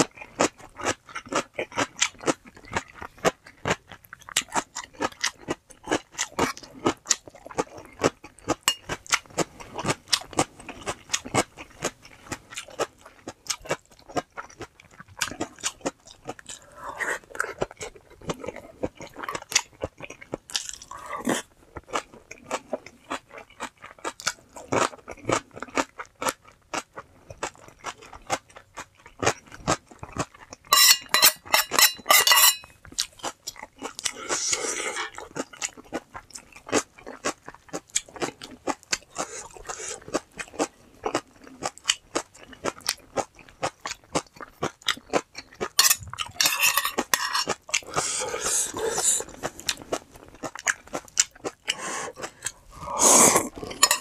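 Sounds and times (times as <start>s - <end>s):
person crunching and chewing food: 0.0s - 54.0s.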